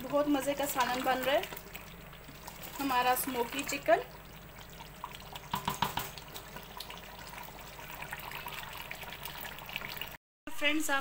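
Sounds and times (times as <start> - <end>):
curry bubbling and sizzling: 0.0 - 10.2.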